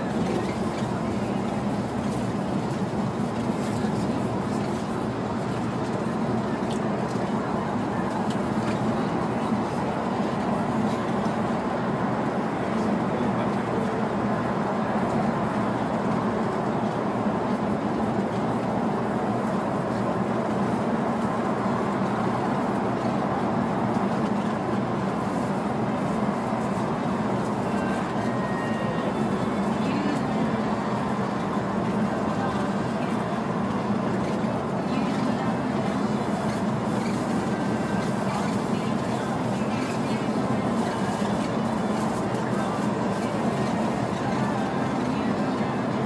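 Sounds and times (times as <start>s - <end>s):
bus road and engine drone: 0.0s - 46.0s.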